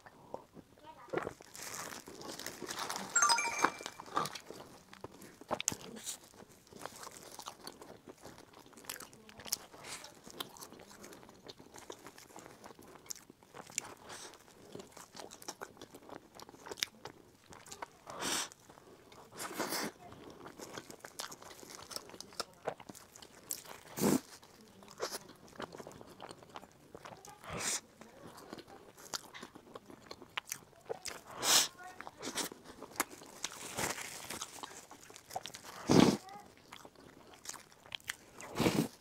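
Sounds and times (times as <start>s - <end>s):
chewing food: 0.0s - 39.0s.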